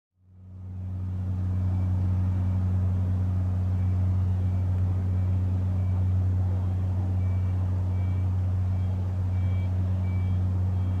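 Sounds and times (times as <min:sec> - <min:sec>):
helicopter rotor drone: 0:00.2 - 0:11.0.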